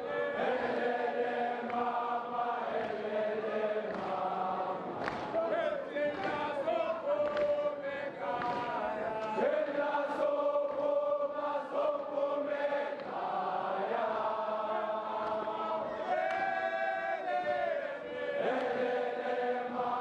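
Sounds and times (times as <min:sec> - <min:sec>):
crowd of boys singing: 0:00.0 - 0:20.0.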